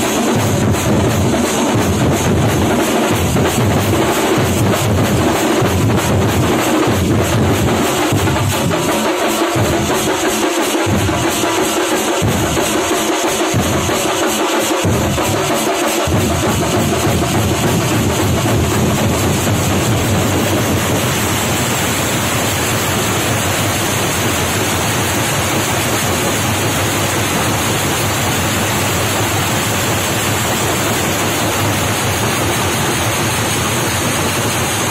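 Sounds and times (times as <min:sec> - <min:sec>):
drums beaten in fast rhythm: 0:00.0 - 0:34.9.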